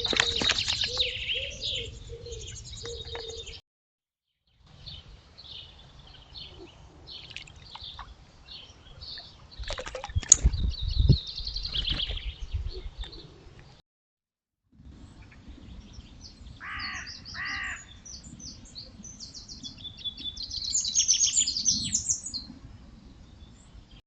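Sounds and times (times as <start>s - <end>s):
small birds chirping: 0.0s - 3.6s, 4.5s - 13.8s, 15.0s - 24.0s.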